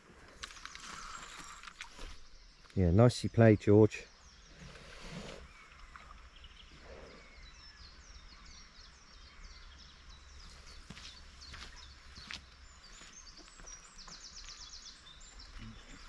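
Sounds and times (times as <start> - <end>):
bird chirping: 0.4 - 16.0.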